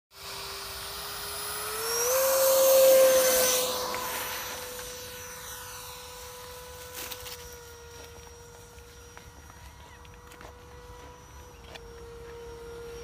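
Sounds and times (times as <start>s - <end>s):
electric ducted fan whining: 0.2s - 13.0s.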